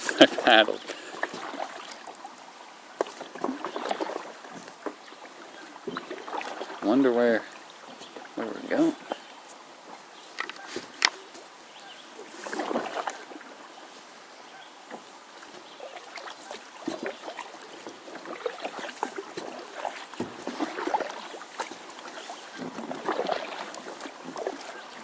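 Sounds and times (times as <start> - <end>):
paddle strokes splashing water: 0.0 - 25.0.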